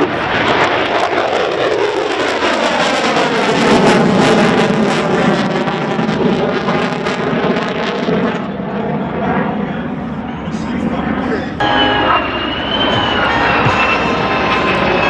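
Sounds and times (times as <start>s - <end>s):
aircraft engine passing: 0.0s - 15.0s.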